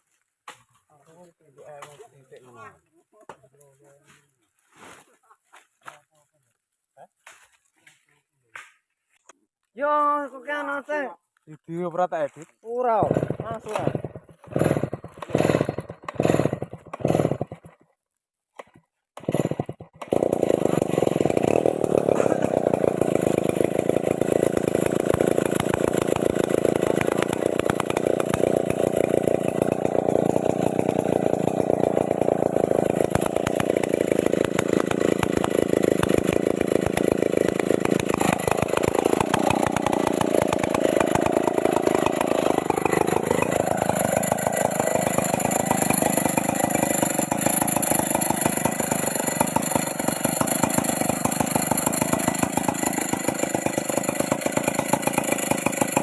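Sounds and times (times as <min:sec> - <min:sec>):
chainsaw running: 0:01.0 - 0:03.4, 0:12.4 - 0:18.0, 0:18.6 - 0:56.0.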